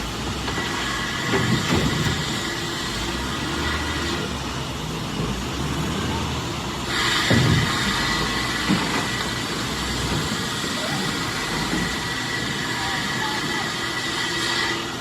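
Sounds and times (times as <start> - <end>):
heavy machinery rumbling and clattering: 0.0 - 14.7.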